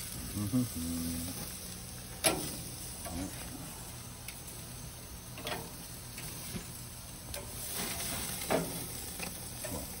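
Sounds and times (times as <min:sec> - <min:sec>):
steaks sizzling on a grill: 0:00.0 - 0:10.0.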